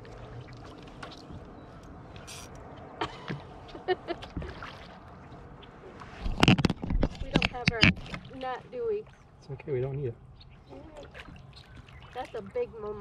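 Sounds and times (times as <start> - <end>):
splashes: 0.0 - 13.0
water lapping: 0.0 - 13.0.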